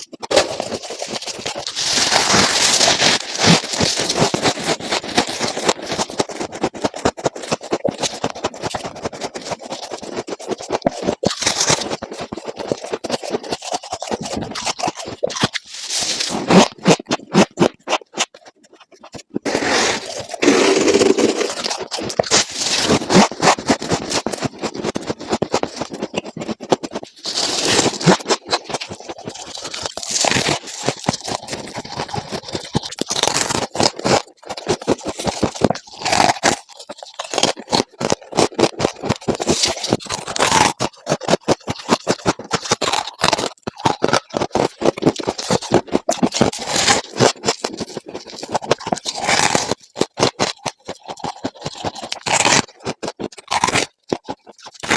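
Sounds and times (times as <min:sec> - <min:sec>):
ice being chewed: 0:00.0 - 0:54.9.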